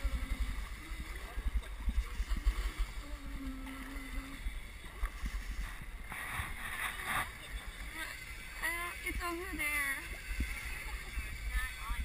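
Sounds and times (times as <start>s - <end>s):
water rushing along hull: 0.0s - 12.0s.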